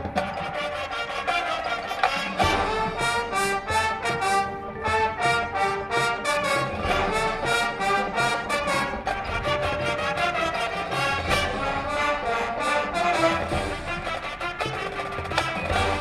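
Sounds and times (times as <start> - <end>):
brass chords: 0.0 - 16.0
marching percussion beat: 0.0 - 16.0.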